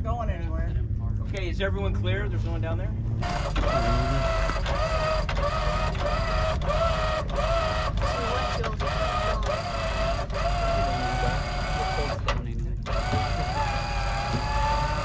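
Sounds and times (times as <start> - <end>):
steady low rumble: 0.0 - 7.4, 8.0 - 15.0
pulsing high mechanical whine: 0.0 - 15.0.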